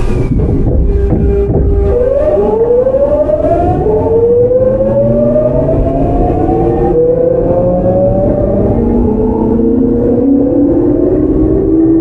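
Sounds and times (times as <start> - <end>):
rumble of train wheels: 0.0 - 12.0
train inverter whining: 0.0 - 12.0.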